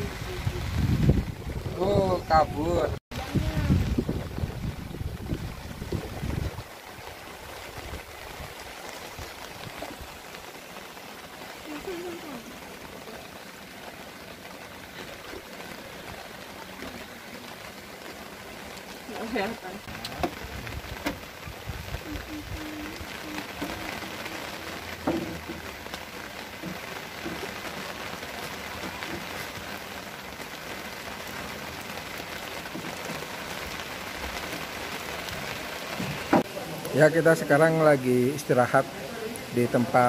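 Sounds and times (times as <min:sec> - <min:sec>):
rain on water and wooden boat: 0:00.0 - 0:40.0.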